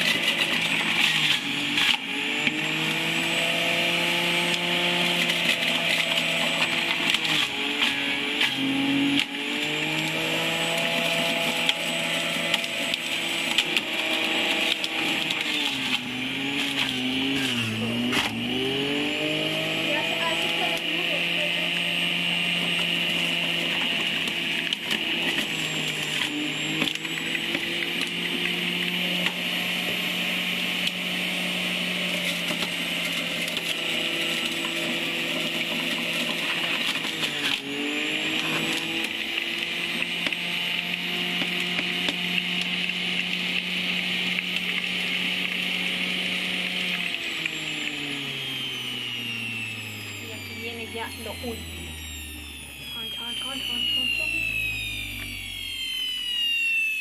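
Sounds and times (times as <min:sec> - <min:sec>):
juicer motor whining: 0:00.0 - 0:57.0.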